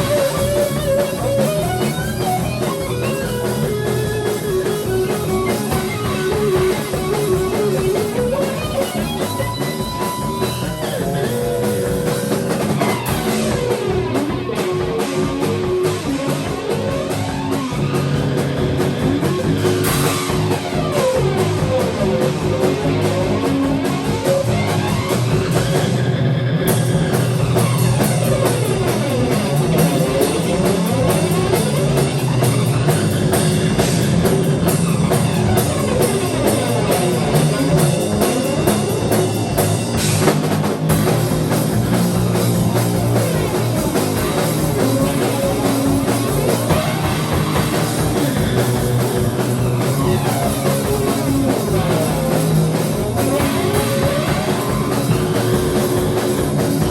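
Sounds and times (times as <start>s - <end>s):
drum kit playing driving beat: 0.0s - 56.9s
electric guitar: 0.0s - 56.9s.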